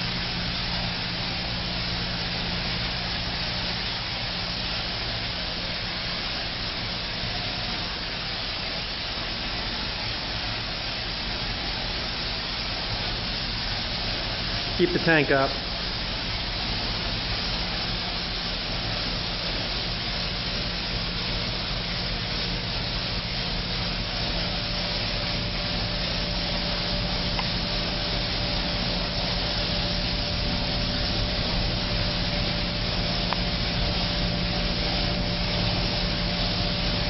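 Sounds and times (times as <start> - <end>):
foam sprayer hissing: 0.0 - 37.0.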